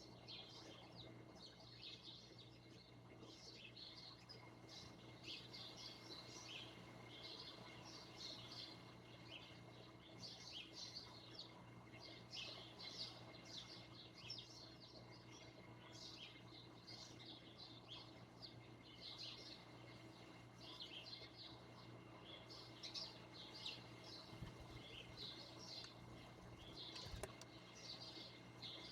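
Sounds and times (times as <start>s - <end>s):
small birds chirping: 0.0s - 28.9s
steady low hum: 0.0s - 28.9s.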